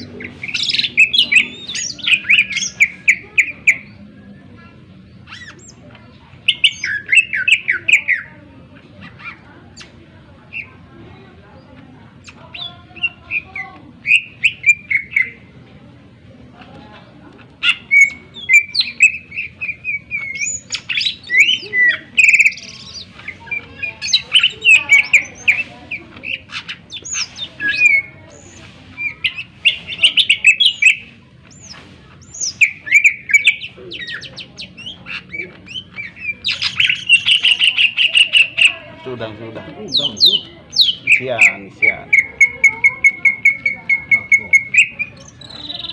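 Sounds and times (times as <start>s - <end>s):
bird singing chirps and trills: 0.0s - 16.2s, 16.9s - 45.9s.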